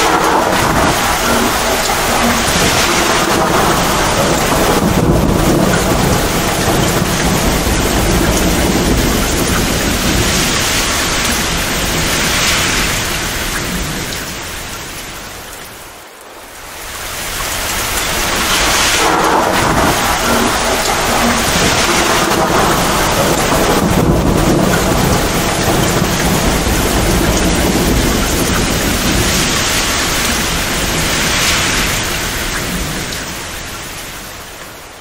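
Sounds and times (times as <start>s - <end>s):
thunder rumbling: 0.0s - 15.4s, 16.4s - 35.0s
heavy rain: 0.0s - 35.0s.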